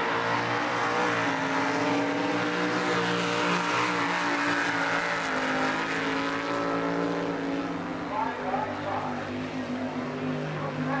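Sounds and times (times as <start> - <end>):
swamp buggy engines running hard: 0.0 - 11.0.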